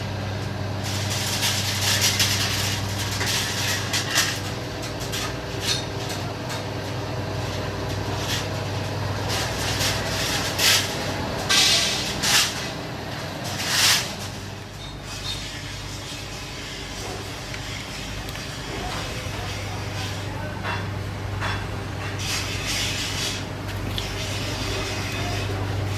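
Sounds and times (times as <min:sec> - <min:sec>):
machinery humming: 0:00.0 - 0:25.9.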